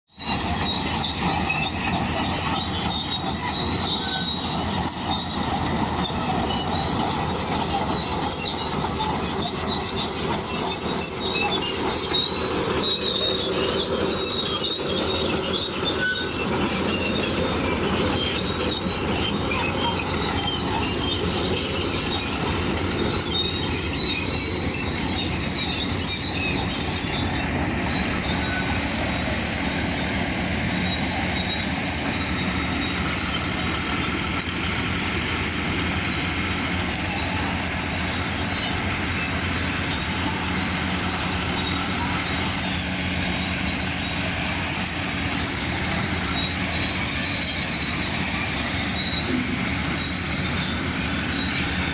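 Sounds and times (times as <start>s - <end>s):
steel tracks squealing and clanking: 0.1s - 51.9s
diesel engine running: 0.2s - 51.9s.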